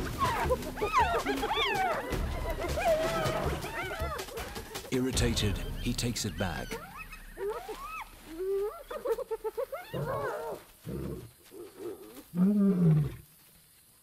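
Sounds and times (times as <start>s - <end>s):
hyenas whooping and giggling: 0.0s - 4.9s, 6.6s - 13.2s.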